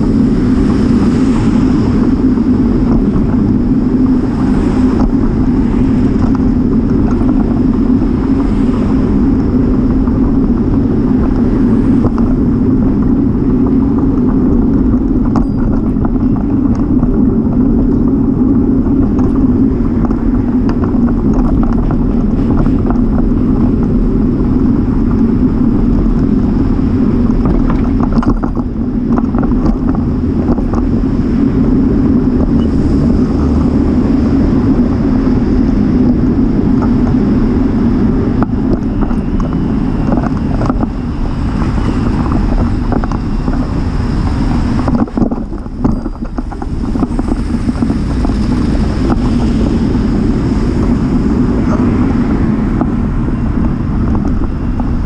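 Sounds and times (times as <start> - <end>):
wind and road rumble: 0.0 - 55.0.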